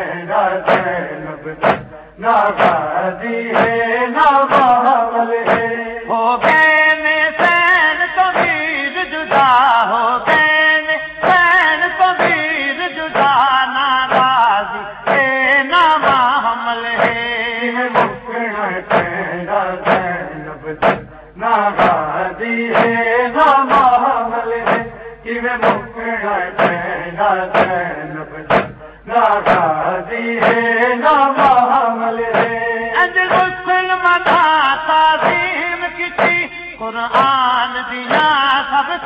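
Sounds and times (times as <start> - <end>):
men chanting: 0.0 - 39.0
rhythmic chest-beating strikes: 0.0 - 39.0.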